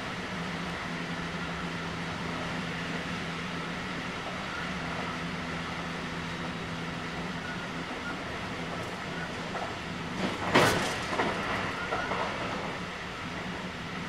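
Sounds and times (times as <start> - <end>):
train interior hum and rumble: 0.0 - 14.0.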